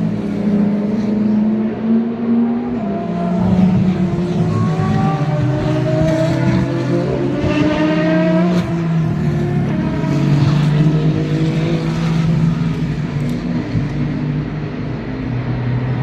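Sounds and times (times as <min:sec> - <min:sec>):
race cars passing: 0:00.0 - 0:16.0.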